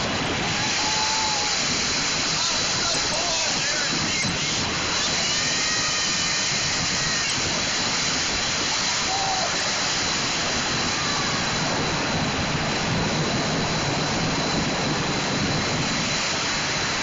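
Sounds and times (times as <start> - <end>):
churned water rushing: 0.0 - 17.0
engine running: 0.0 - 17.0.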